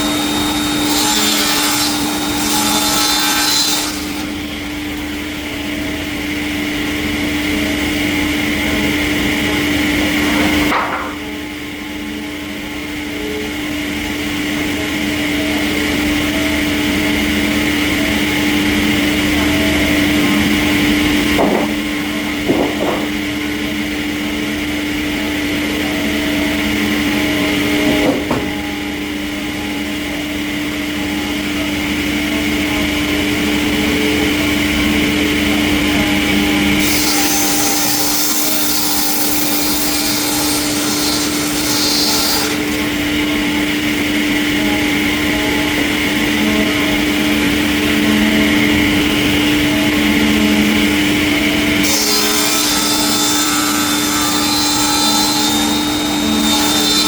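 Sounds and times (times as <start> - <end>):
sawmill machinery humming: 0.0 - 57.0.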